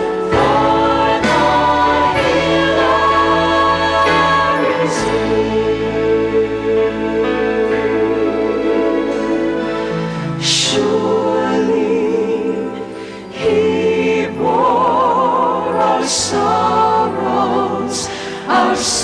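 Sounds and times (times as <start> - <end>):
choir singing gospel: 0.0 - 19.0.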